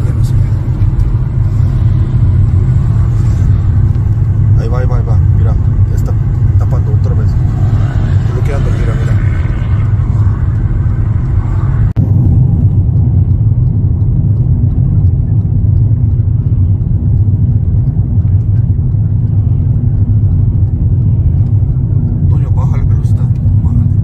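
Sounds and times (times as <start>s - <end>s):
car cabin road and engine rumble: 0.0s - 24.0s.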